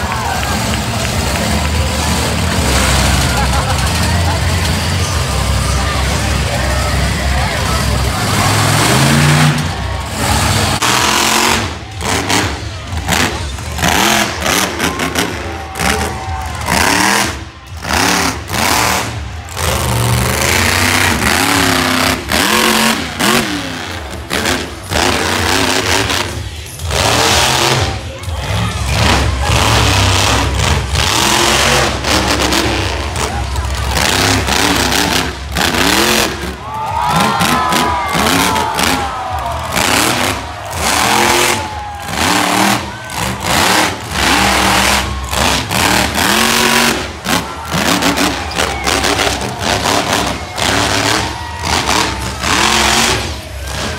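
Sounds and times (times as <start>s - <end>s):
monster truck engines revving: 0.0s - 53.9s.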